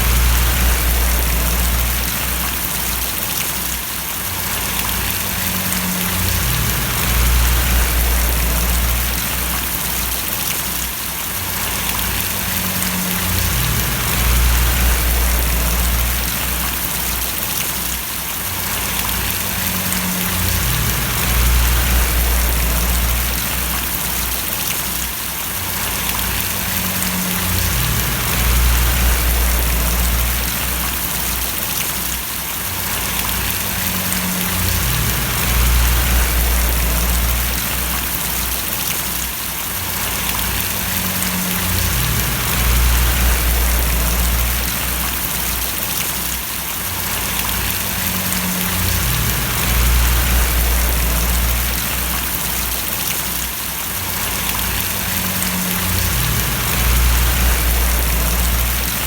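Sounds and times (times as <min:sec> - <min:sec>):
deep low hum: 0:00.0 - 0:03.0, 0:04.6 - 0:10.4, 0:11.6 - 0:17.3, 0:18.8 - 0:24.6, 0:25.9 - 0:31.6, 0:33.1 - 0:38.8, 0:40.1 - 0:45.9, 0:47.2 - 0:53.0, 0:54.3 - 0:59.0
rain falling and splashing: 0:00.0 - 0:59.0.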